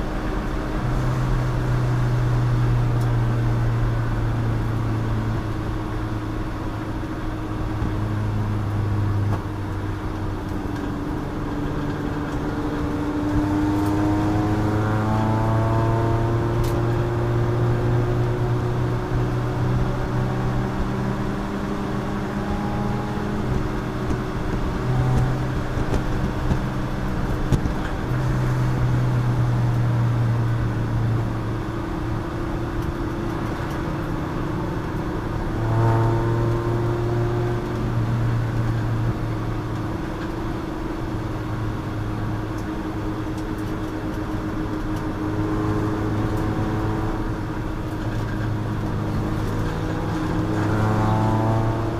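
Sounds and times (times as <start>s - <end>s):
race car engine running hard: 0.0s - 51.9s.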